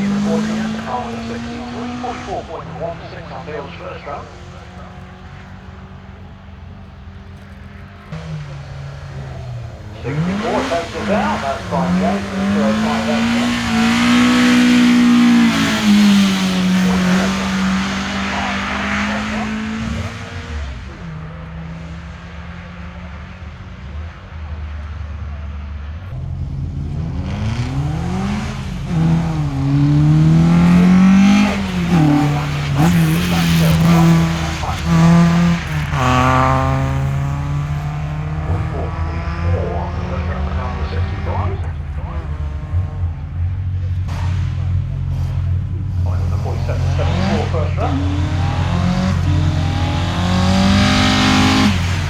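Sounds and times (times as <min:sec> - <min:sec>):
race car engine at high revs: 0:00.0 - 0:52.0.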